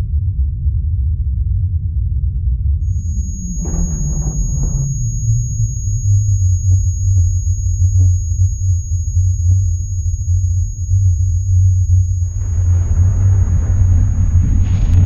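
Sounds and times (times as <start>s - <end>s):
deep low rumble: 0.0s - 15.0s.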